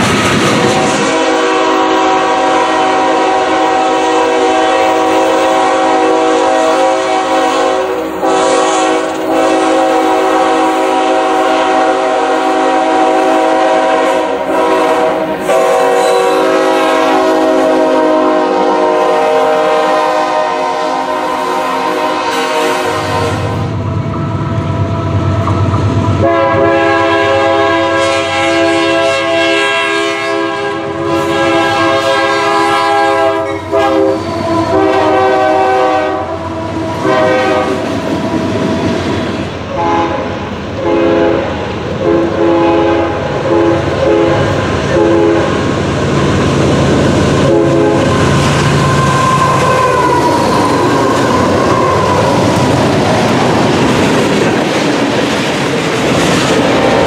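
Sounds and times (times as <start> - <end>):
locomotive air horn blasts: 0.7 - 23.7, 26.2 - 37.9, 39.7 - 45.6, 47.4 - 52.4.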